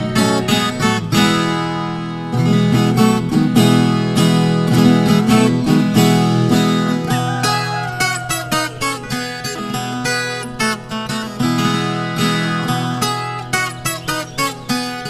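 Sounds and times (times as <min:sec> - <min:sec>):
guitar plucking and strumming: 0:00.0 - 0:15.0.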